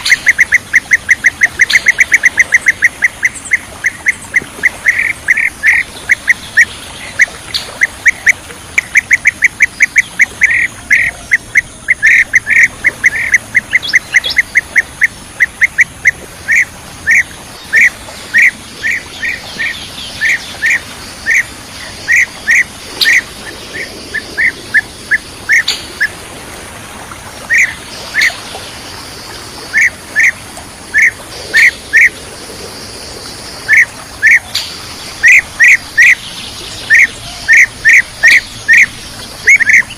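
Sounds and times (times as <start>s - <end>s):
bird calling with sharp chirps: 0.0s - 26.1s, 33.7s - 39.9s.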